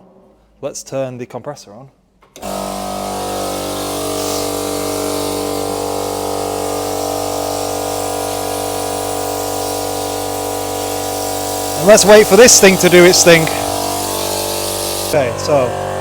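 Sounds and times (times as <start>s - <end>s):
air compressor humming: 2.4s - 16.0s.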